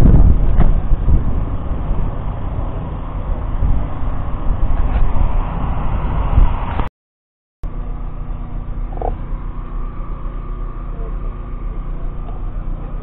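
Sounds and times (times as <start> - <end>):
engine idling: 0.0 - 6.7, 7.6 - 13.0
wind-buffeted outdoor rumble: 0.0 - 6.9, 7.6 - 13.0.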